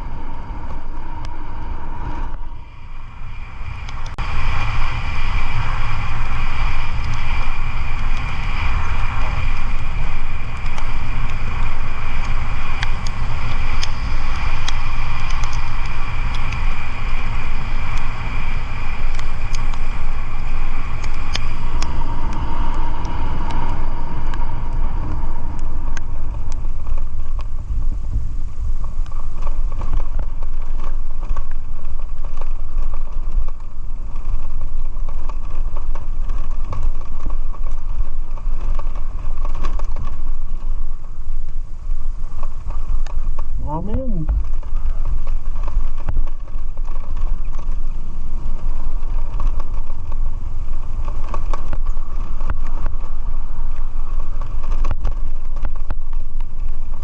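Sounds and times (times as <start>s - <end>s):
vehicle road noise: 0.0s - 57.0s.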